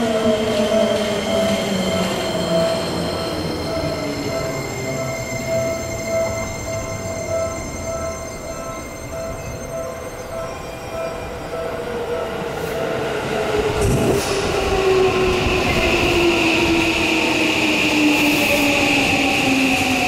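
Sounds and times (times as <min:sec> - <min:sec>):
electric train inverter tones: 0:00.0 - 0:20.0.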